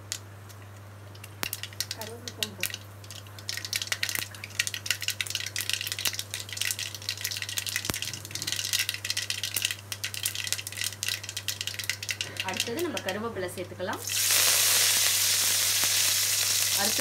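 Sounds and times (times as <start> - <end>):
seeds popping in hot oil: 0.0 - 17.0.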